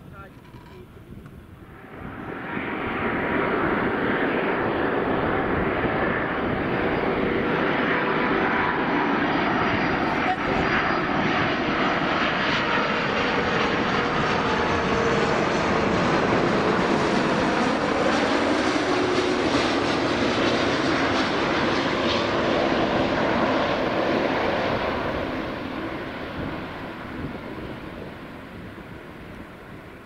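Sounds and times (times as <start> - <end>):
jet engines passing by: 0.0 - 30.0.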